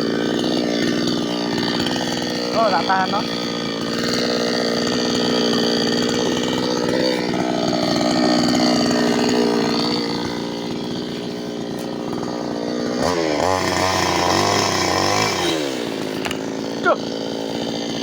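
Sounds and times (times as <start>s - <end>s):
two-stroke chainsaw running: 0.0s - 18.0s.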